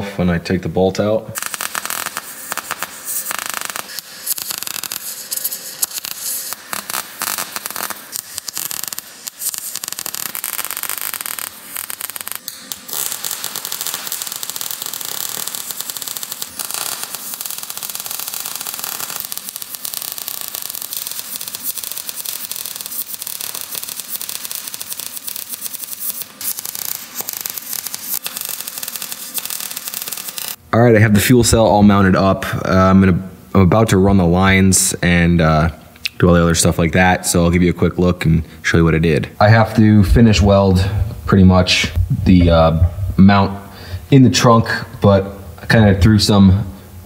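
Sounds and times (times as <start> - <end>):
welder arc crackling and hissing: 0.6 - 33.0, 33.7 - 47.0.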